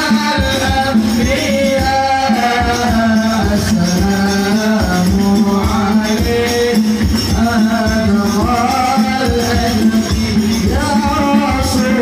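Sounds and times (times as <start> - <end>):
music with singing and percussion: 0.0 - 12.0.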